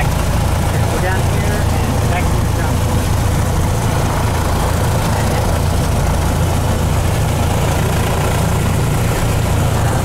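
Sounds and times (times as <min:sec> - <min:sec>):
aircraft engine humming: 0:00.0 - 0:10.0.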